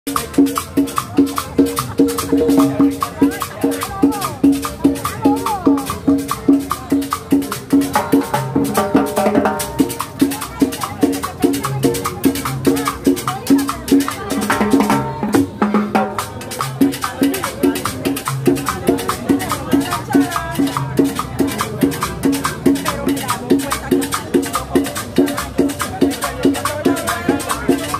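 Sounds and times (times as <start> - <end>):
percussion beat with shaker: 0.1 - 27.9.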